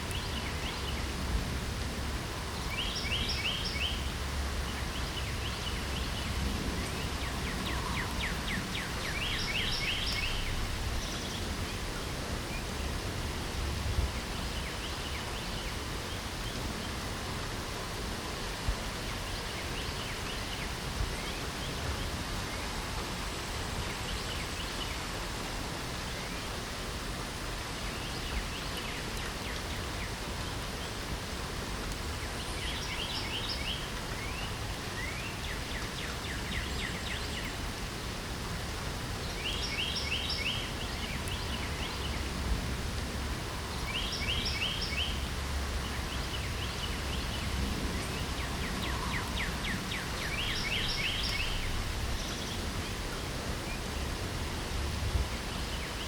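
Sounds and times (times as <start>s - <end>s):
songbird singing: 0.0s - 1.4s, 2.3s - 25.3s, 27.6s - 56.0s
light rain hissing: 0.0s - 56.0s.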